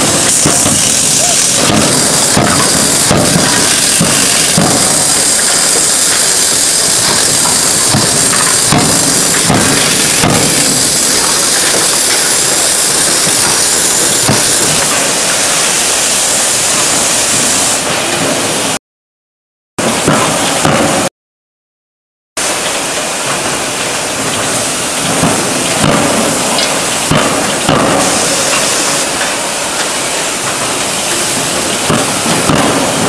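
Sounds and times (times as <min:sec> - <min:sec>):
loud steady hissing: 0:00.0 - 0:18.8, 0:22.4 - 0:33.0.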